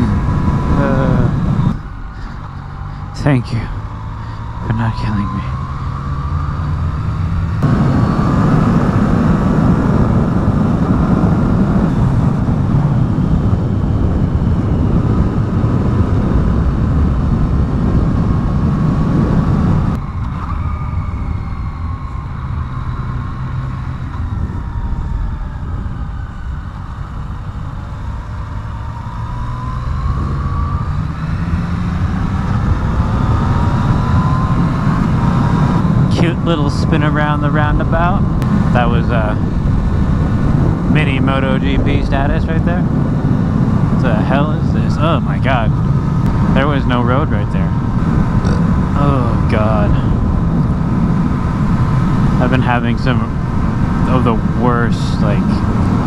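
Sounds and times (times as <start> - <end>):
motorcycle engine: 0.0 - 56.0
wind rush on microphone: 0.0 - 56.0.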